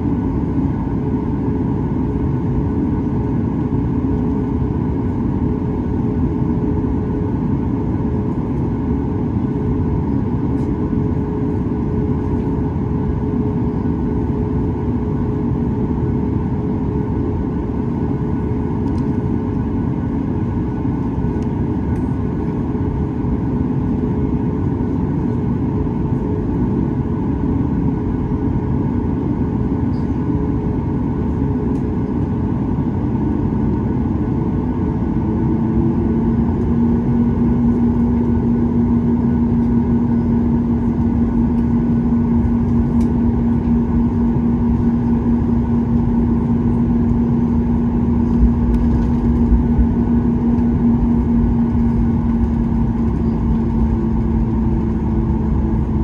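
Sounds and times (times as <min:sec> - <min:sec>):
jet engines rumbling from cabin: 0:00.0 - 0:56.0.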